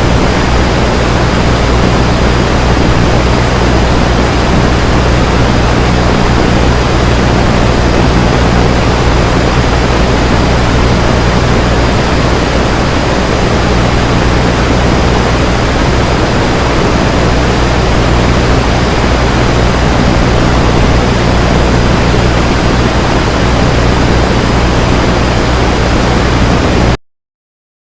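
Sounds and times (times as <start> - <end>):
faint high whine: 0.0 - 27.0
low buzzing hum: 0.0 - 27.0
radio static hiss: 0.0 - 27.0.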